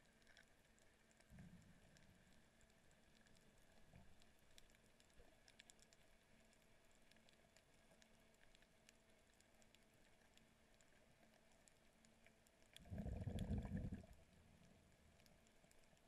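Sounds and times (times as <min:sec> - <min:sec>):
faint clicks: 0:00.0 - 0:16.0.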